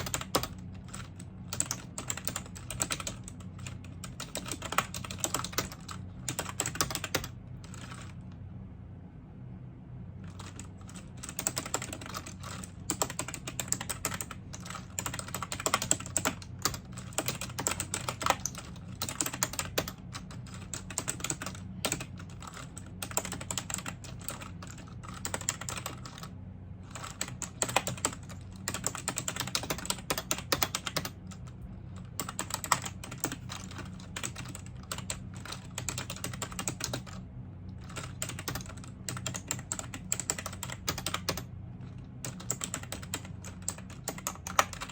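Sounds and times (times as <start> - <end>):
computer keyboard typing: 0.0 - 8.2, 10.3 - 26.3, 26.9 - 37.2, 37.8 - 44.9
steady low hum: 0.0 - 44.9.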